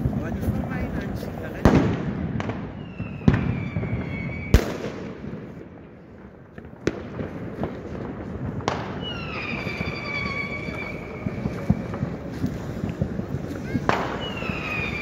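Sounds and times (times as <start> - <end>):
firecracker bangs: 0.0 - 5.7, 6.5 - 15.0
crackle of distant fireworks: 0.0 - 15.0
whistling firework: 0.0 - 15.0.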